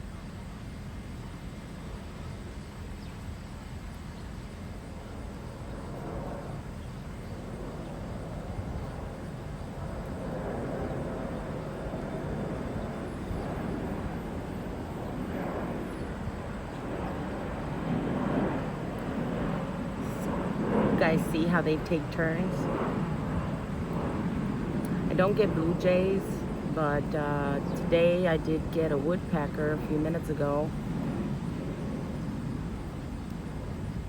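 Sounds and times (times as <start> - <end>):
distant engine rumble: 0.0 - 34.0.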